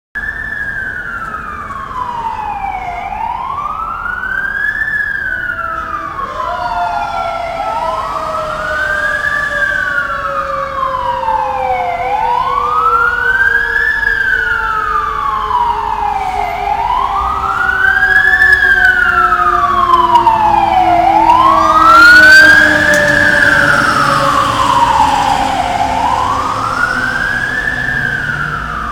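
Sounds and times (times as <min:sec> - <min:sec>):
fire engine siren wailing: 0:00.2 - 0:28.9
second siren tone sinking: 0:05.5 - 0:28.9.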